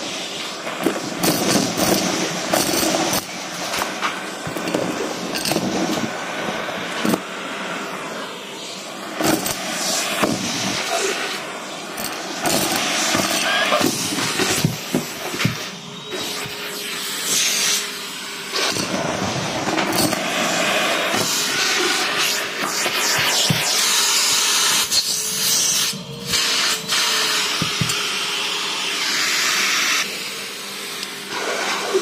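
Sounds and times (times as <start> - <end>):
vacuum cleaner sucking: 0.0 - 32.0.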